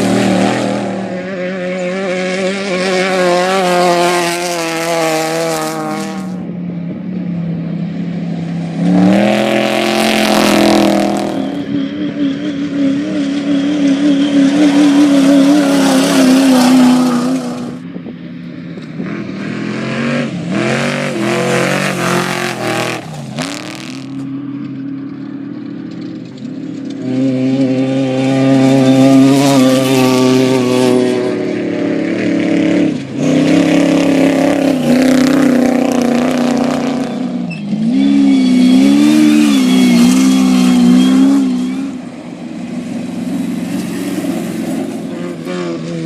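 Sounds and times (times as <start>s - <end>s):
race vehicle engine revving: 0.0s - 6.5s, 8.1s - 17.8s, 18.8s - 24.4s, 25.6s - 46.0s
rushing wind: 0.0s - 46.0s
terrain noise: 0.0s - 46.0s.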